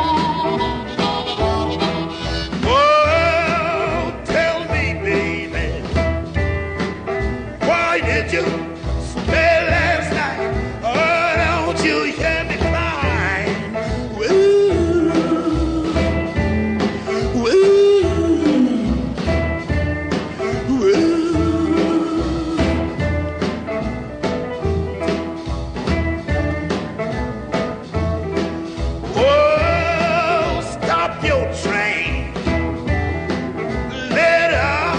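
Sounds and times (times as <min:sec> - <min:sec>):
blues or country song: 0:00.0 - 0:34.9.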